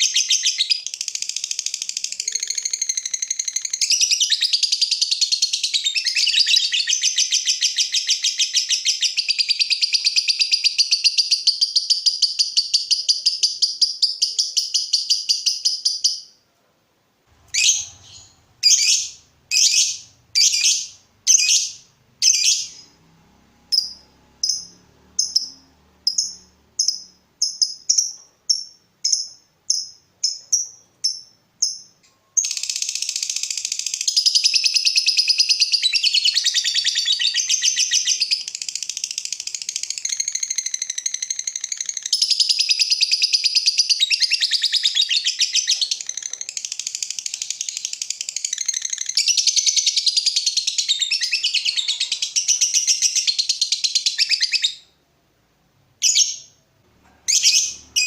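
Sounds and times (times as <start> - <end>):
lovebird chattering song: 0.0 - 16.3, 17.5 - 23.0, 23.7 - 54.9, 56.0 - 56.6, 57.3 - 58.0.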